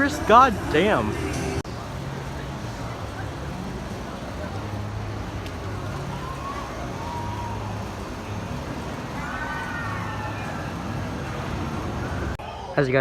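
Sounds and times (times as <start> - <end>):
low outdoor rumble: 0.0 - 12.6
faint distant voices: 1.6 - 13.0.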